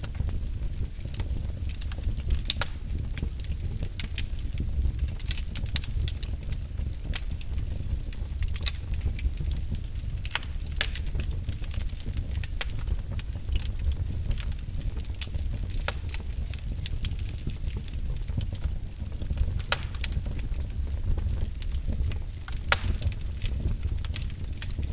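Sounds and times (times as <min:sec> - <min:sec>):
fire crackles and pops: 0:00.0 - 0:24.9
logs burning in fireplace: 0:00.0 - 0:24.9.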